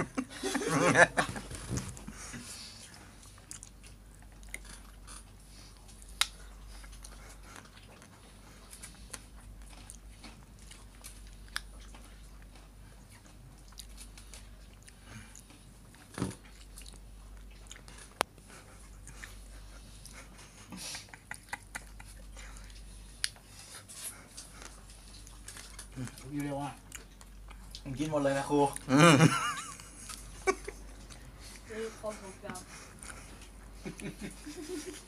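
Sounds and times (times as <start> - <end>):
ice cream being chewed: 1.4 - 29.0, 29.8 - 35.0.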